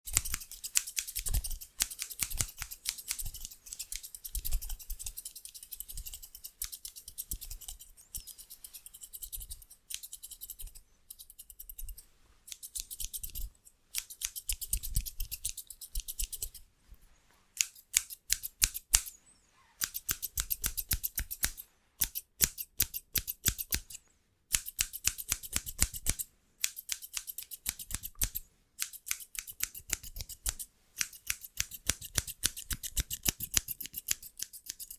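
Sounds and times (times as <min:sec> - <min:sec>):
scissors snipping fast: 0:00.1 - 0:16.6, 0:17.6 - 0:19.1, 0:19.8 - 0:34.9.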